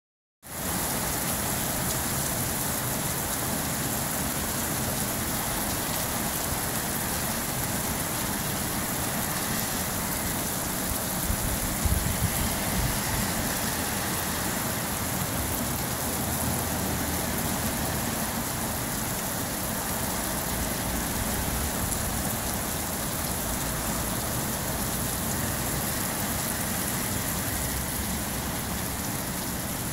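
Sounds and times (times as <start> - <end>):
heavy rain on pavement: 0.4 - 29.9.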